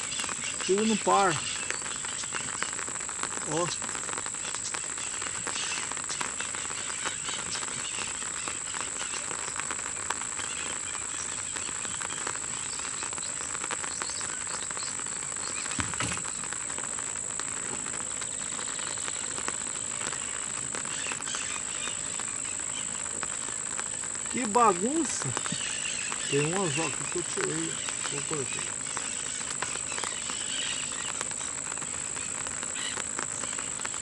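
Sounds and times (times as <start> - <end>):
high insect trill: 0.0 - 34.0
rain pattering on a lake: 0.0 - 34.0.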